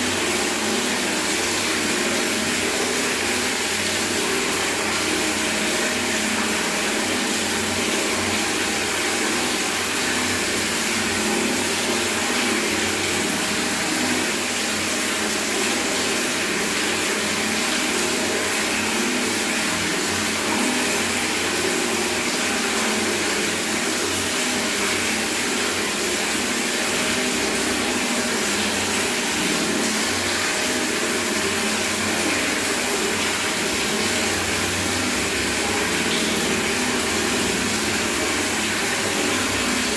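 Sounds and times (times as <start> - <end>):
tap water running into bucket: 0.0 - 39.9.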